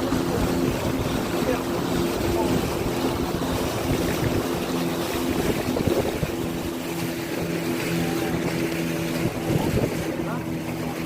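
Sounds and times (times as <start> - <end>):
speedboat engine running: 0.0 - 11.0
wind buffeting microphone: 0.0 - 11.0.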